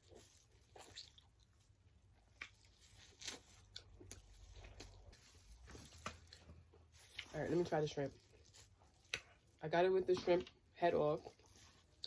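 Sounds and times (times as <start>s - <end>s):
person chewing: 0.0s - 9.6s, 11.2s - 12.0s.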